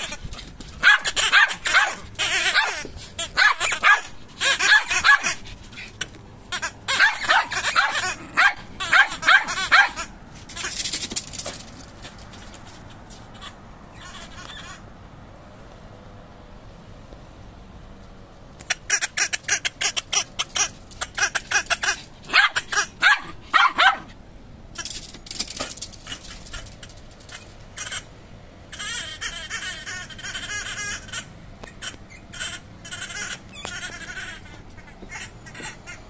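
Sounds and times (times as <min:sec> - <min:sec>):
rubber dog toy squeaking: 0:00.0 - 0:14.9, 0:18.6 - 0:36.0.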